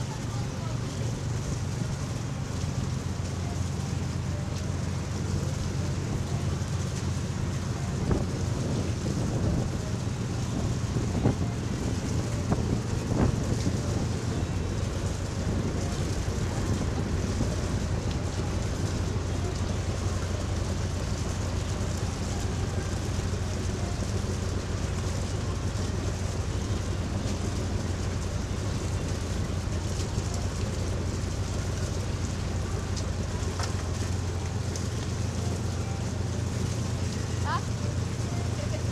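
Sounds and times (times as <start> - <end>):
boat engine droning: 0.0 - 38.9
wind: 0.0 - 38.9.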